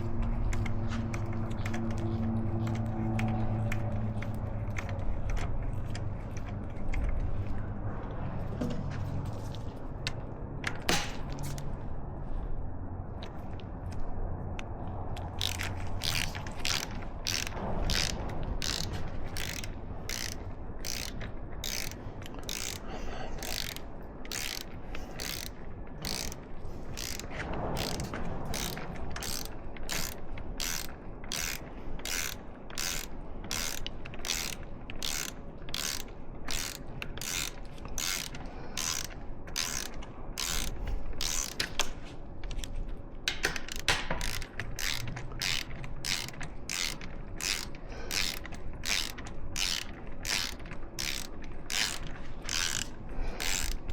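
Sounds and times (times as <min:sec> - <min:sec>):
ratchet wrench clicking: 0:00.0 - 0:06.5, 0:15.2 - 0:42.7, 0:43.3 - 0:53.9.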